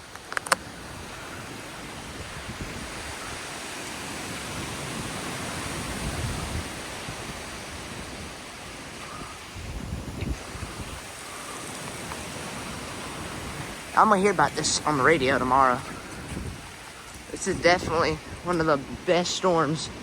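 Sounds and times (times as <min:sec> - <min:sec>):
strong wind rushing: 0:00.0 - 0:20.0
wind buffeting microphone: 0:00.0 - 0:20.0.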